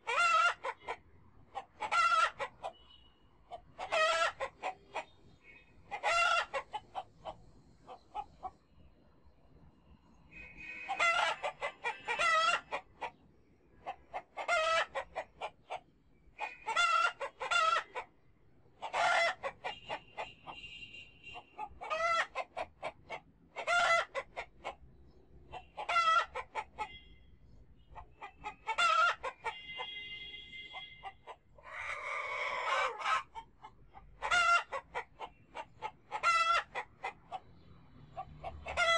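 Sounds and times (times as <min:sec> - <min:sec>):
chickens clucking: 0:00.0 - 0:08.7, 0:10.8 - 0:13.2, 0:13.8 - 0:18.2, 0:18.8 - 0:20.6, 0:21.4 - 0:27.1, 0:27.8 - 0:30.0, 0:30.7 - 0:38.9.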